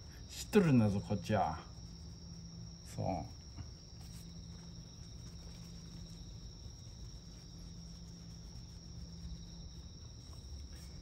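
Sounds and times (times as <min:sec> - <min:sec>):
insects singing: 0:00.0 - 0:11.0
low steady hum: 0:00.0 - 0:11.0.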